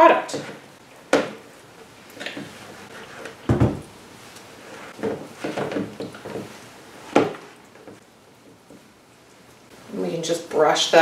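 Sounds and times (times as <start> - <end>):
rustling squishing: 0.4 - 9.7.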